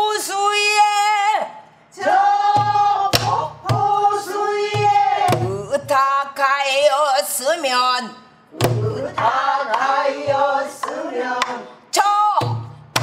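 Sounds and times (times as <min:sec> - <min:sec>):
folk singing with long held notes: 0:00.0 - 0:07.2, 0:08.5 - 0:12.6.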